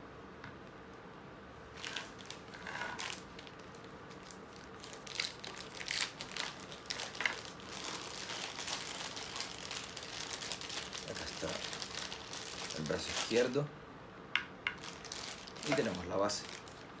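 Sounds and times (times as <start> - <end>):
plastic bag crinkling: 1.7 - 13.7, 14.7 - 17.0.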